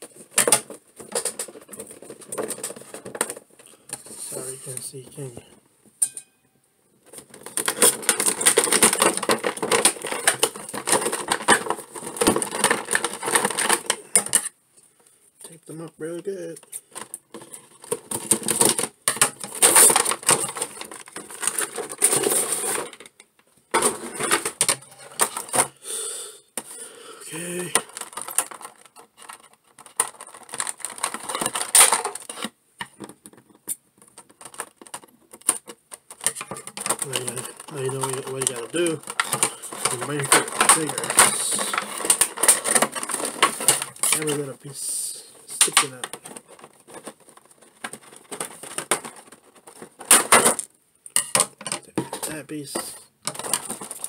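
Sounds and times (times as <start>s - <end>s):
packaging crackling and rustling: 0.0s - 5.6s, 7.0s - 14.6s, 15.4s - 25.8s, 26.6s - 54.0s
plastic parts clicking: 7.0s - 14.5s, 16.5s - 25.7s, 27.4s - 54.0s
plastic crinkling: 7.0s - 25.7s, 27.2s - 54.0s.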